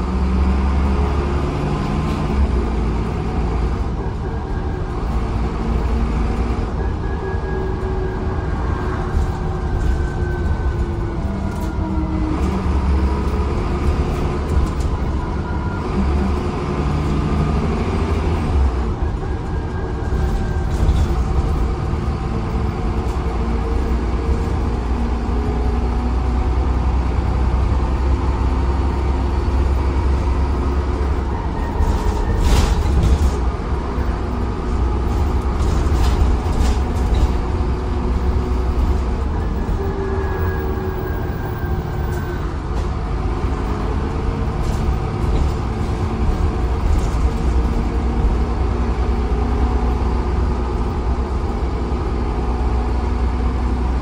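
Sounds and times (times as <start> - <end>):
bus diesel engine rumbling: 0.0 - 54.0.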